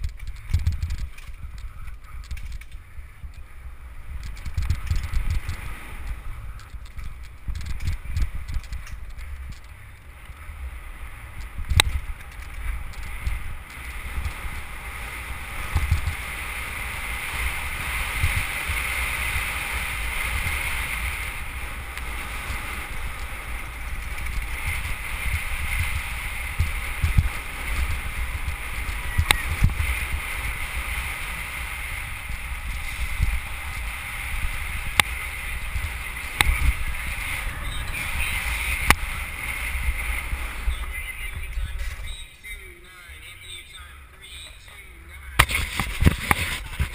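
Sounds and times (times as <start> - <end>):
wind buffeting microphone: 0.0 - 42.6, 45.4 - 46.9
bike rattling: 0.0 - 46.9.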